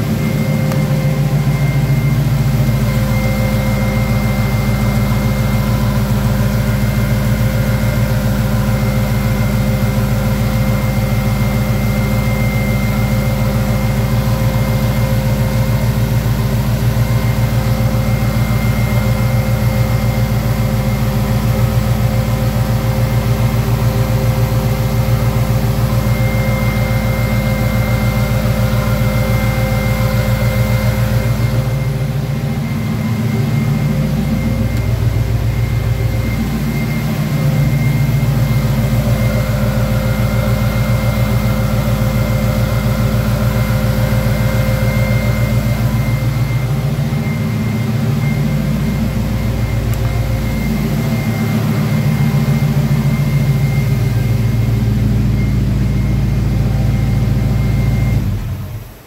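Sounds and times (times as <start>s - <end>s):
car engine idling: 0.0s - 59.0s
high whine: 0.0s - 59.0s.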